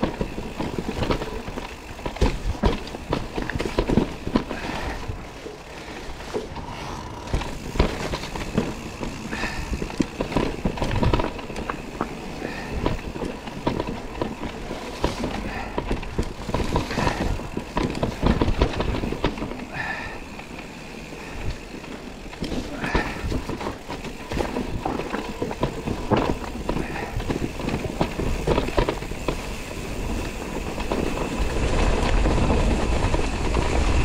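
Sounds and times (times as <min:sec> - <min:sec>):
bike knocks and rattles: 0:00.0 - 0:34.0
tyre rumble on dirt trail: 0:00.0 - 0:34.0.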